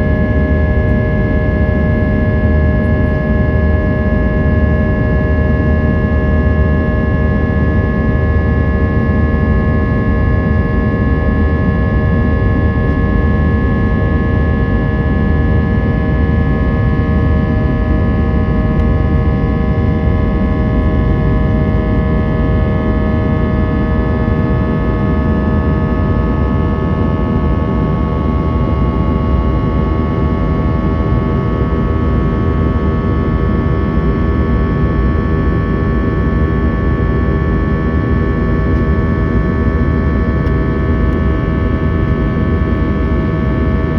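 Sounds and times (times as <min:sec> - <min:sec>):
jet engines droning: 0:00.0 - 0:43.9.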